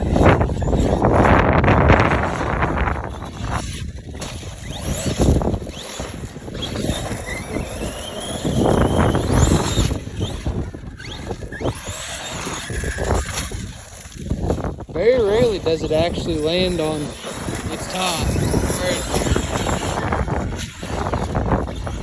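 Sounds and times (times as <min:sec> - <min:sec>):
electric motor whining: 0:00.0 - 0:22.0
rough rushing noise: 0:00.0 - 0:22.0.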